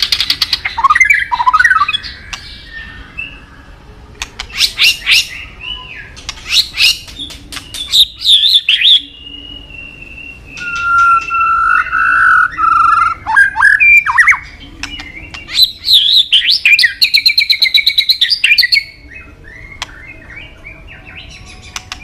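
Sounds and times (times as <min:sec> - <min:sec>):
bird singing with whistles: 0:00.0 - 0:03.8, 0:04.4 - 0:22.0.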